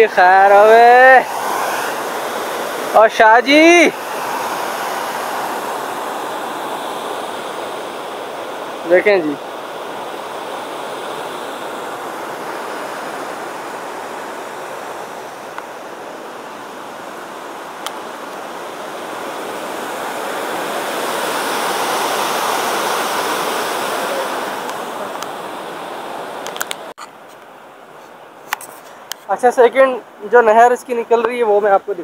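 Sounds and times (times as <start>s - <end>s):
river water rushing over weir: 0.0s - 26.9s.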